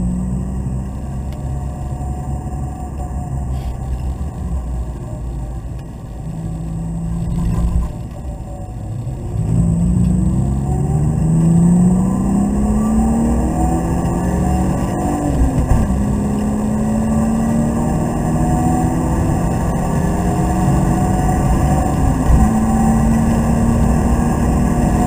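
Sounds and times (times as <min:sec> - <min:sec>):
car engine accelerating: 0:00.0 - 0:25.0
road rumble: 0:00.0 - 0:25.0.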